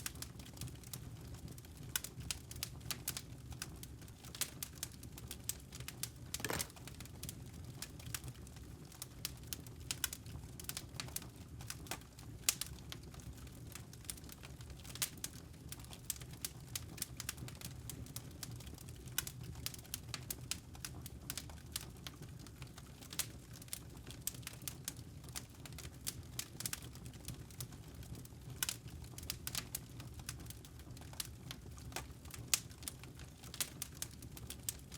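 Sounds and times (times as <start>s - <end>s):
wood fire crackling: 0.0s - 7.0s, 7.7s - 34.9s.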